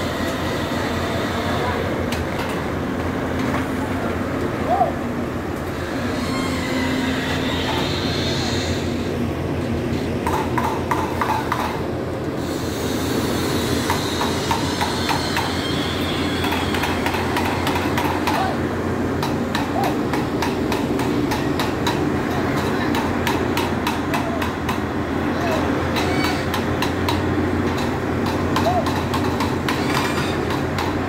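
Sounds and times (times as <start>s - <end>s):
excavator diesel engine running: 0.0s - 31.0s
steel tracks clanking: 0.0s - 31.0s.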